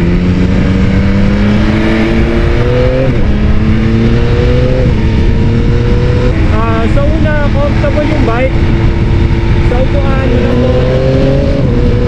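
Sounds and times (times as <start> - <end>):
motorcycle engine accelerating: 0.0 - 12.0
wind rush on microphone: 0.0 - 12.0.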